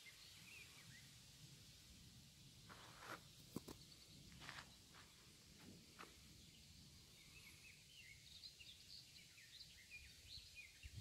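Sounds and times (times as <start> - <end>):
songbird chirping: 0.0 - 1.2, 2.7 - 11.0.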